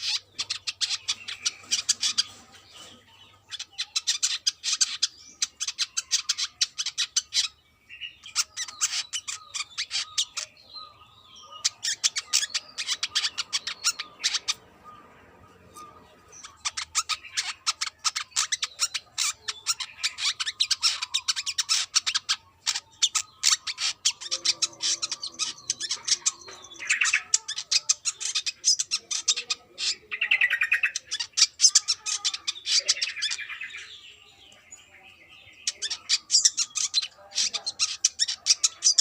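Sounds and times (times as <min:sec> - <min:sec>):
buzzy bird trills: 0:00.0 - 0:34.2
bird singing high chirps: 0:00.0 - 0:39.0.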